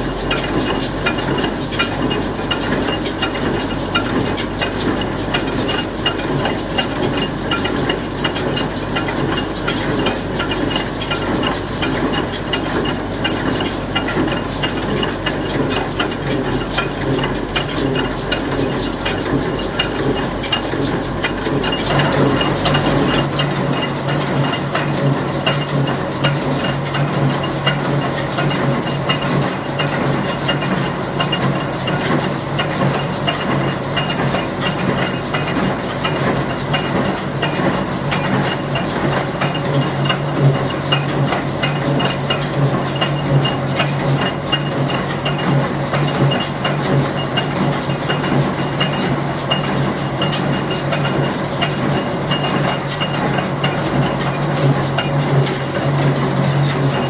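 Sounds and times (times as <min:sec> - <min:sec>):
baler rattling clatter: 0:00.0 - 0:57.0
tractor engine hum: 0:00.0 - 0:57.0.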